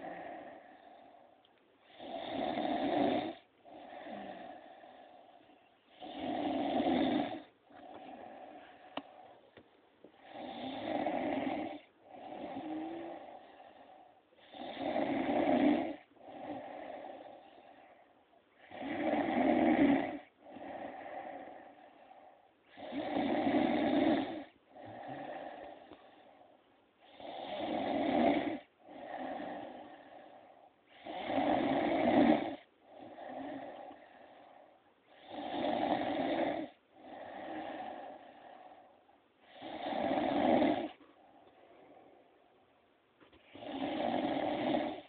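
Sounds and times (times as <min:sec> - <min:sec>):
woman snoring: 0:00.0 - 0:09.3, 0:10.2 - 0:41.0, 0:43.4 - 0:45.0.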